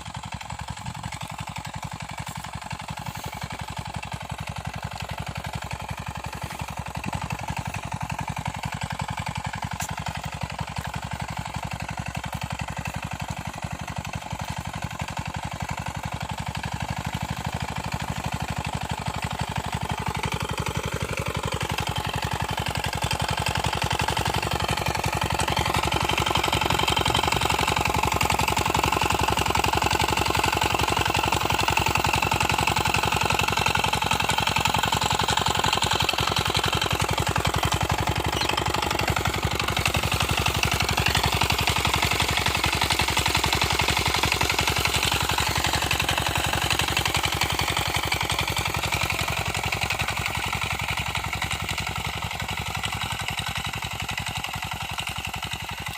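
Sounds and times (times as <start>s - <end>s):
small tractor engine running: 0.0s - 55.9s.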